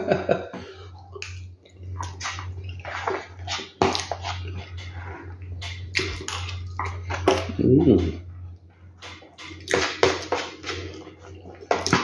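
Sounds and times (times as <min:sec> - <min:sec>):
wet chewing: 0:01.0 - 0:12.0.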